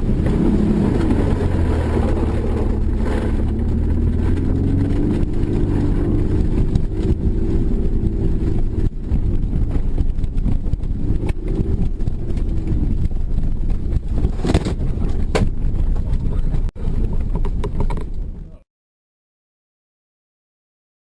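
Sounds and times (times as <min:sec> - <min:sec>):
vehicle engine driving: 0:00.0 - 0:18.5
wind buffeting microphone: 0:00.0 - 0:18.6.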